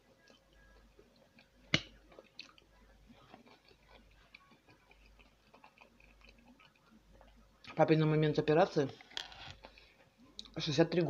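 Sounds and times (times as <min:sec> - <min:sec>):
chewing soft food: 0:00.0 - 0:07.8, 0:09.0 - 0:10.6.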